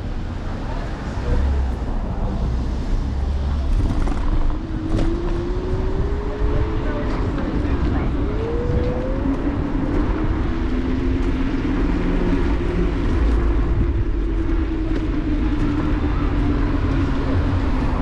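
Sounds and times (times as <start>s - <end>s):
wind and road rumble: 0.0s - 18.0s.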